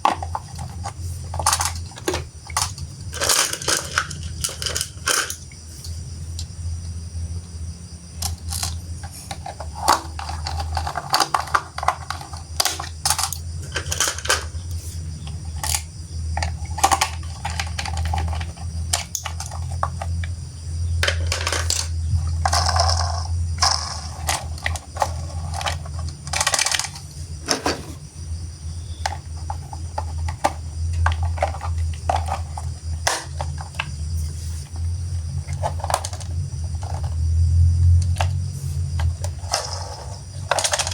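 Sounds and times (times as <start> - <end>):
plastic toy pieces clattering: 0.0 - 5.5, 8.2 - 20.1, 21.0 - 28.0, 29.0 - 33.9, 35.4 - 37.2, 38.0 - 38.4, 39.0 - 40.9
steady low hum: 0.0 - 40.9.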